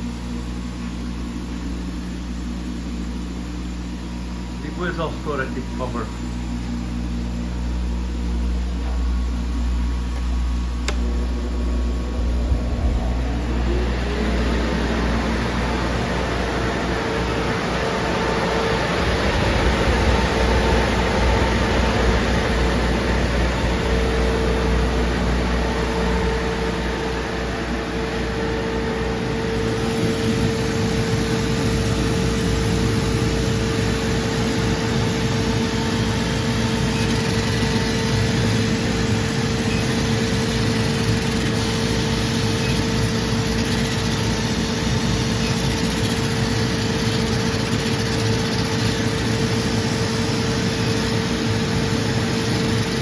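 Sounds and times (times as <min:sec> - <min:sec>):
laser cutter and fan whirring: 0:00.0 - 0:53.0.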